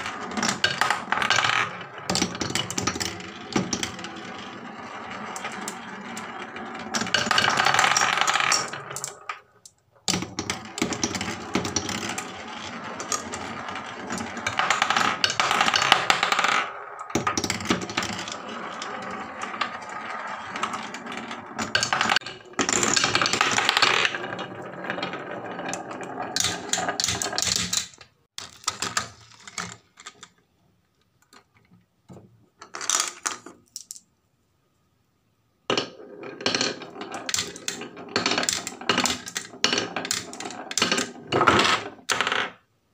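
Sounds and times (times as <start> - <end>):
marbles clicking and knocking: 0.0 - 30.4, 35.7 - 42.6
marbles rolling on wooden track: 0.0 - 30.4, 35.7 - 42.7.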